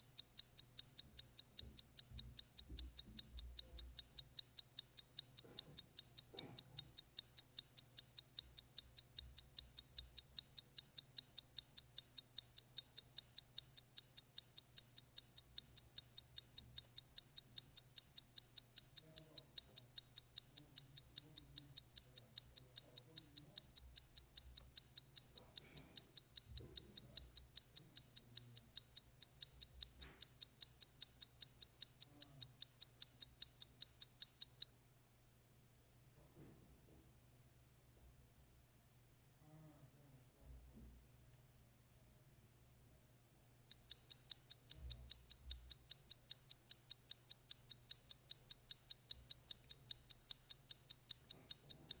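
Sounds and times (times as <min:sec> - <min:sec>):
clock ticking fast: 0:00.0 - 0:34.7, 0:43.7 - 0:52.0.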